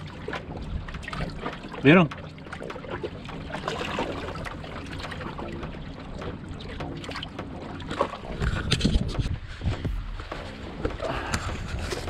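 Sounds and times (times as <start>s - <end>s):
low rumble: 0.0s - 12.0s
river water lapping on rocks: 0.0s - 12.0s.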